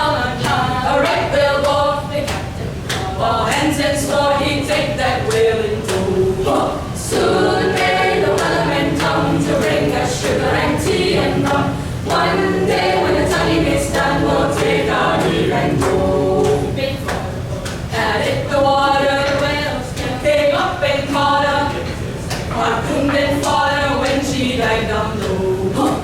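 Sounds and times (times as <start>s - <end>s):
a cappella group singing: 0.0s - 26.0s.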